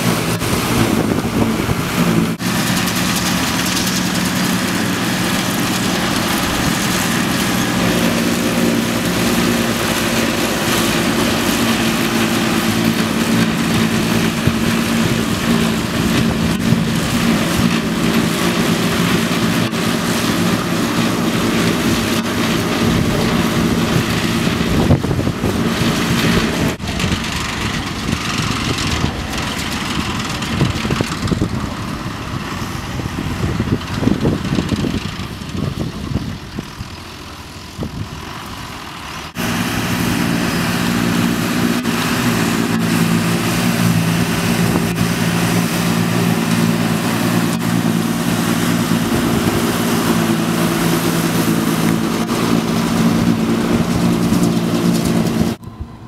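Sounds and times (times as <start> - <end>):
forage harvester blowing grass: 0.0 - 56.0
second tractor engine: 0.0 - 56.0
tractor engine running under load: 0.0 - 56.0.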